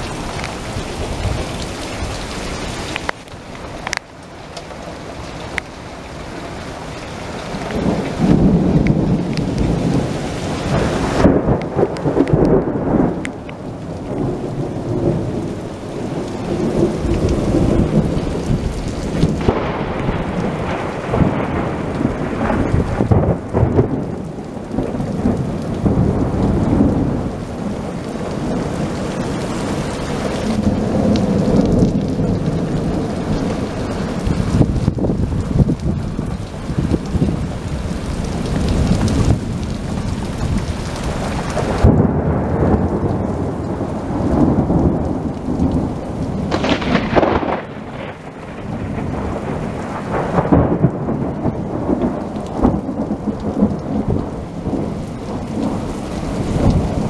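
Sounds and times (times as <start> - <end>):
gusting wind: 0.0 - 57.0
rain pouring down: 0.0 - 57.0
thunder rumbling: 0.0 - 57.0.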